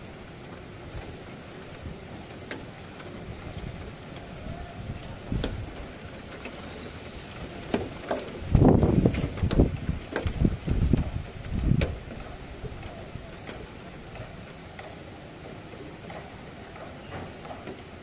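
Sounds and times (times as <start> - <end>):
storm wind buffeting microphone: 0.0 - 14.7
steady outdoor hiss: 0.0 - 18.0.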